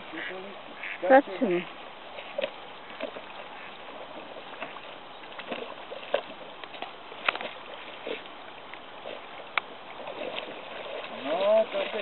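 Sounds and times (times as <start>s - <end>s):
water splashes: 0.0s - 12.0s
dog paddling in water: 0.6s - 12.0s.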